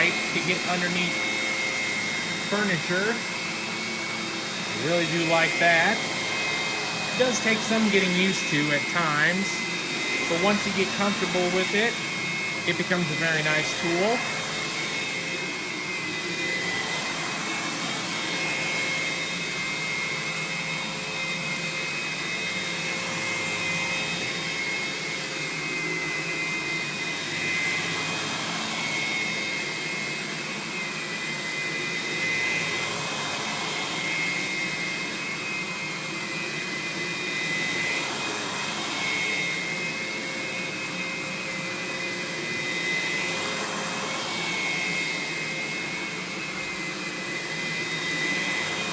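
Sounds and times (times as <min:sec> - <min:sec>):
vacuum cleaner motor whining: 0:00.0 - 0:48.9.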